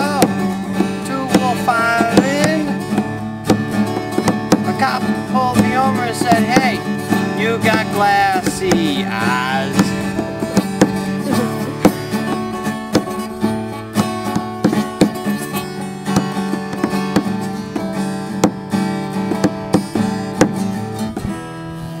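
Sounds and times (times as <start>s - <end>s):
out-of-tune acoustic guitar strumming: 0.0s - 22.0s.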